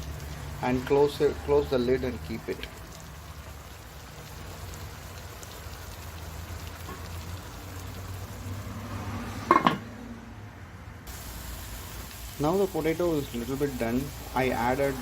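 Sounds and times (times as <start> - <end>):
potatoes sizzling in pan: 0.0 - 8.8, 11.1 - 15.0.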